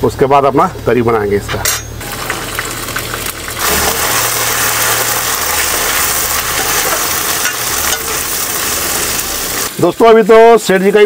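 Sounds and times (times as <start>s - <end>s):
peas sizzling in hot oil: 1.9s - 11.0s.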